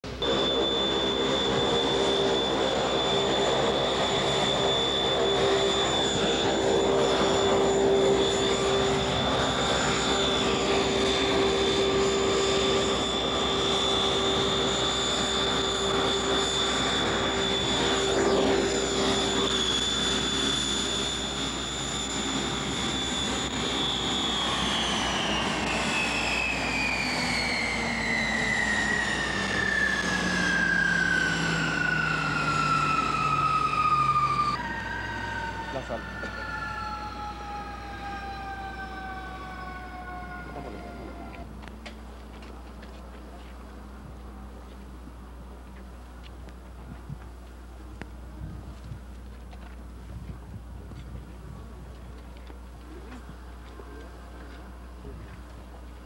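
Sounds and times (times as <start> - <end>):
turboprop engine whine: 0.0 - 56.0.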